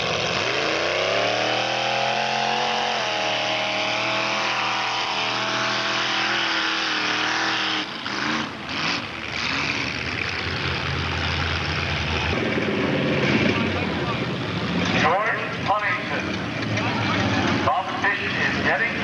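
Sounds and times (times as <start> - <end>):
truck engine running hard: 0.0 - 19.0.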